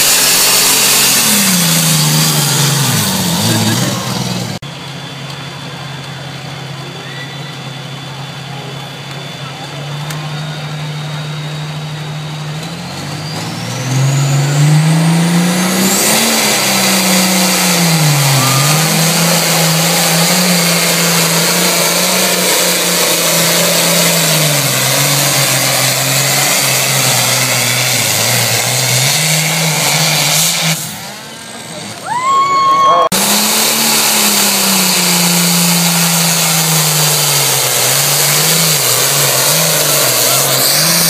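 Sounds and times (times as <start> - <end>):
diesel tractor engine revving: 0.0 - 32.0, 32.9 - 41.0.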